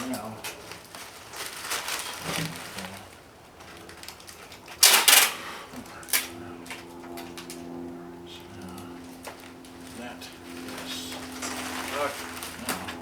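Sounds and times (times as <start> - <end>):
packing materials rustling: 0.0 - 7.6, 8.6 - 13.0
faint steady hum: 0.0 - 13.0.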